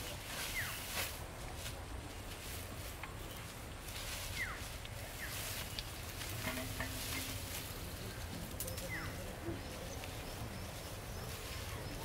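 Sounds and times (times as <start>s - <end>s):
dry straw rustling and crackling: 0.0s - 12.0s.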